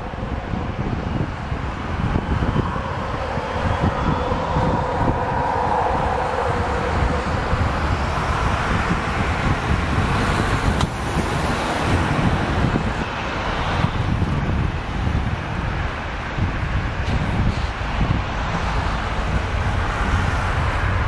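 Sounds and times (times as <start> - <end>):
car passing: 0.0 - 21.0
jet engines rumbling: 0.0 - 21.0
wind buffeting microphone: 0.0 - 21.0.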